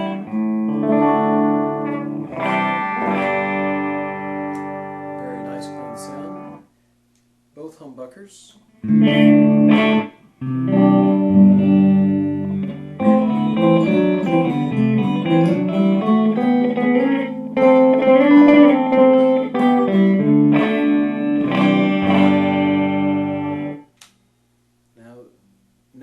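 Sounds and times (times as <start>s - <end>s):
clean electric guitar chords: 0.0s - 6.6s, 8.8s - 23.9s.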